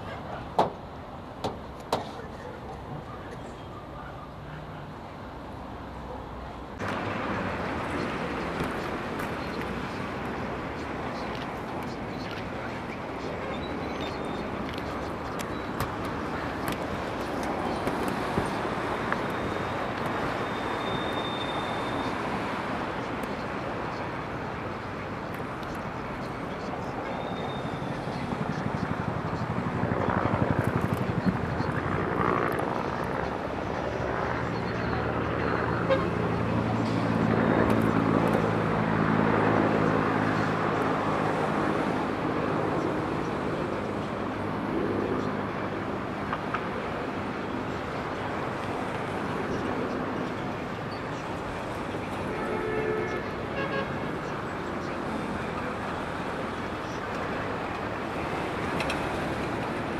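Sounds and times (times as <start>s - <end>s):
street noise: 0.0s - 59.9s.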